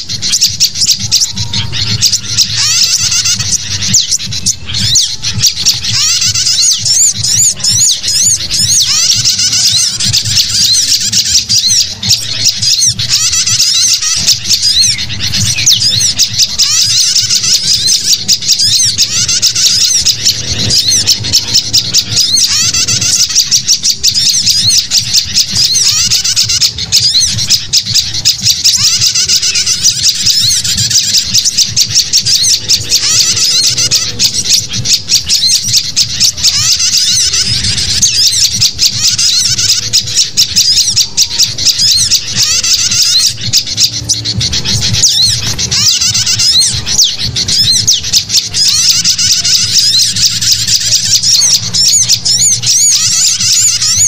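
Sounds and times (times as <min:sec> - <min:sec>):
birds chirping: 0:00.0 - 0:54.0
bulbul flock chattering: 0:00.0 - 0:54.0.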